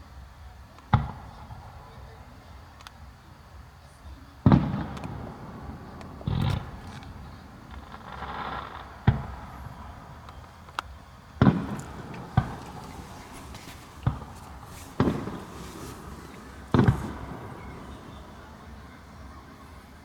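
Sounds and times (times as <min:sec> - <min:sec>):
fireworks booming: 0:00.9 - 0:02.4, 0:04.4 - 0:20.0.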